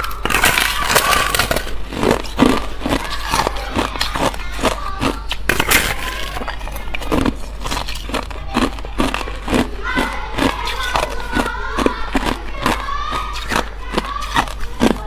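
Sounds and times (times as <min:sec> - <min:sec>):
ice crunching and crackling: 0:00.0 - 0:15.0.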